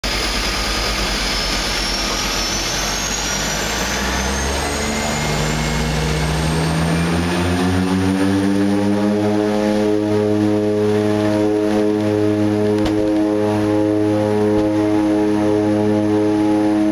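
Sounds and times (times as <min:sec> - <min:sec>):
propeller drone: 0:00.0 - 0:16.9
turbine whine: 0:00.0 - 0:16.9.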